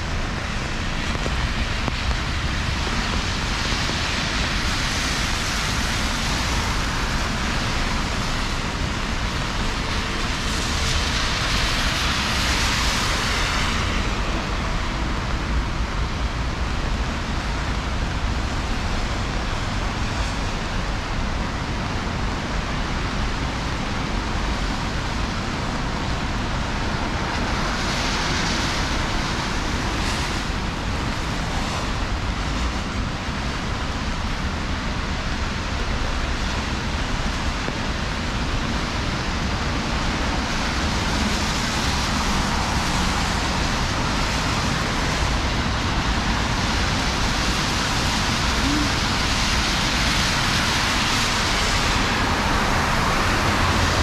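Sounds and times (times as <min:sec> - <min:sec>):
car tyres hissing on wet road: 0:00.0 - 0:54.0
heavy rain falling: 0:00.0 - 0:54.0.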